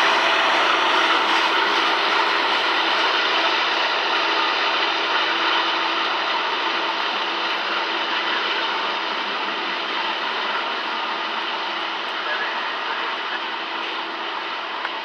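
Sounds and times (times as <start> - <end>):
steel wheels rattling on rail: 0.0 - 14.8.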